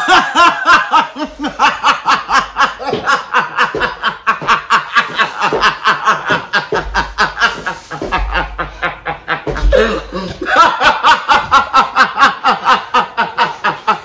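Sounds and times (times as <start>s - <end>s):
woman laughing hard: 0.0s - 14.0s.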